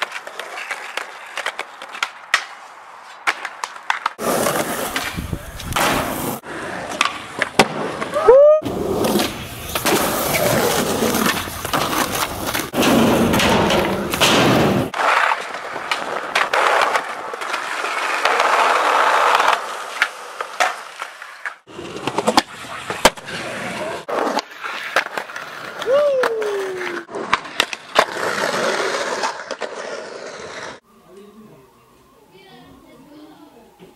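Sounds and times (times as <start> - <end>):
skateboard wheels rolling on concrete: 0.0 - 30.9.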